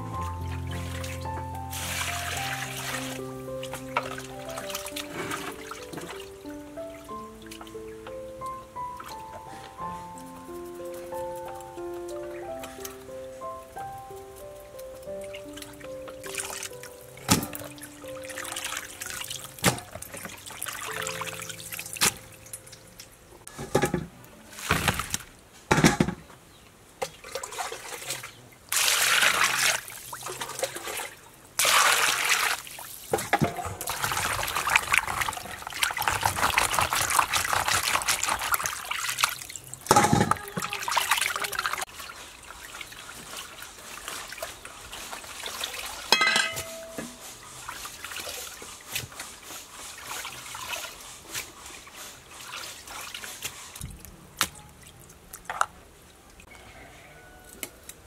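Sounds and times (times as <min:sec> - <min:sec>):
water splashing in a basin: 0:00.0 - 0:09.8, 0:14.6 - 0:25.4, 0:27.0 - 0:56.5
water dripping: 0:00.0 - 0:23.5, 0:26.6 - 0:49.2, 0:52.3 - 0:56.5.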